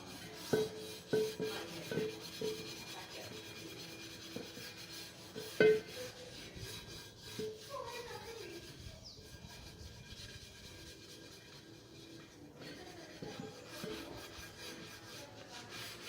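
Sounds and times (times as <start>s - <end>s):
rubbing and scraping: 0.0s - 16.0s.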